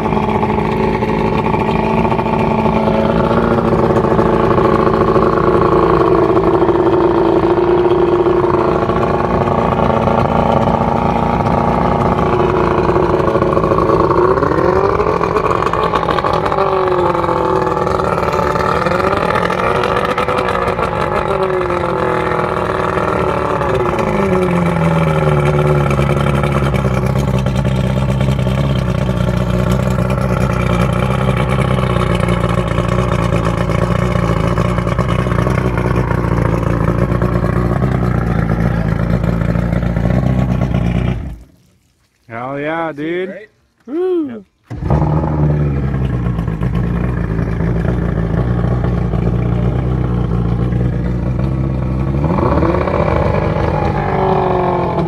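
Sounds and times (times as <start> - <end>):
outboard motor revving and idling: 0.0 - 41.6, 43.8 - 55.0.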